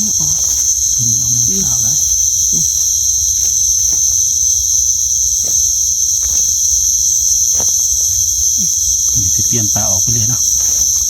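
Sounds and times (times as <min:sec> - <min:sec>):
crickets chirring: 0:00.0 - 0:11.0
faint rustles and clicks: 0:00.0 - 0:11.0.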